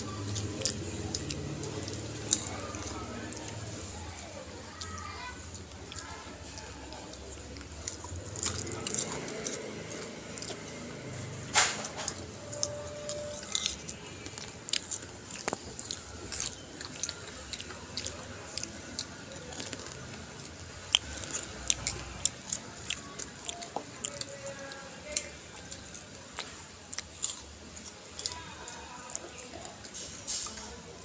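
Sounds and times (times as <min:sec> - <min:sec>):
popcorn being chewed: 0:00.0 - 0:31.0
popcorn rustling in bowl: 0:00.0 - 0:31.0.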